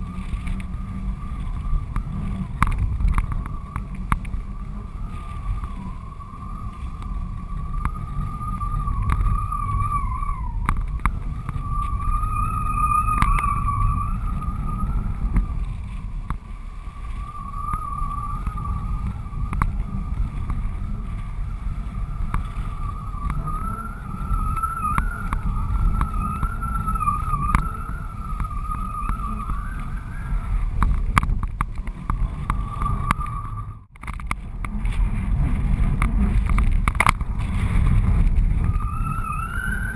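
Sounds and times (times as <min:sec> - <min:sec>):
wavering wind whistle: 0:00.0 - 0:39.9
wind buffeting camera: 0:00.0 - 0:39.9.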